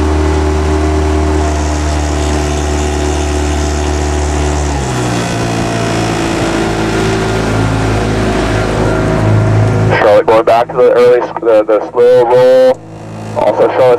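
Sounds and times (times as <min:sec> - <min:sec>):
outboard motor running: 0:00.0 - 0:13.9.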